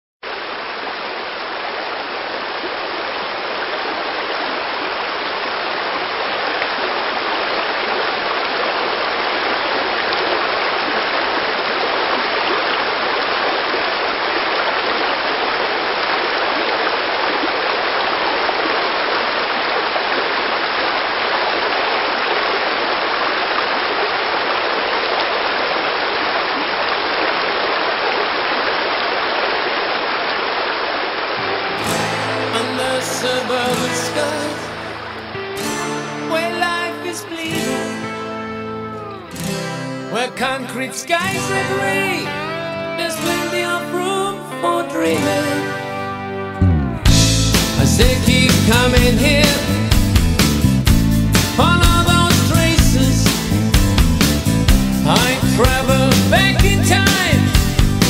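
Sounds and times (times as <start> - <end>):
stream water rushing: 0.2 - 47.7.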